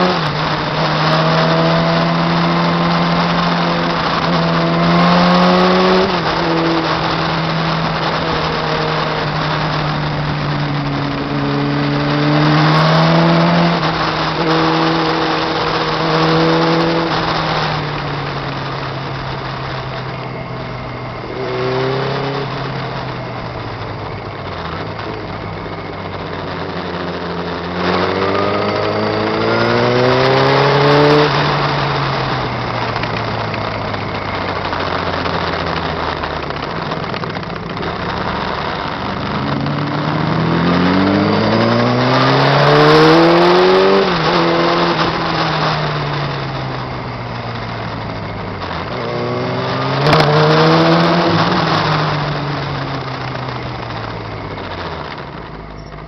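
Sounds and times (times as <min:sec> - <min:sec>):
motorcycle engine accelerating: 0:00.0 - 0:56.0
wind rush: 0:00.0 - 0:56.0.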